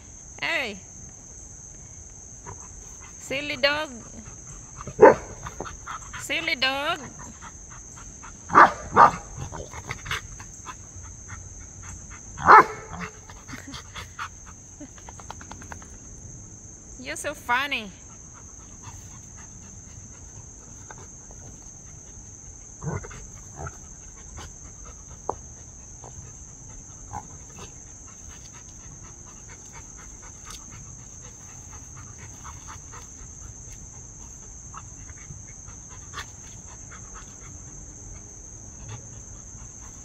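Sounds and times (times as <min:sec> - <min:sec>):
high-pitched insect drone: 0:00.0 - 0:40.0
dog panting: 0:02.4 - 0:16.0, 0:18.0 - 0:40.0.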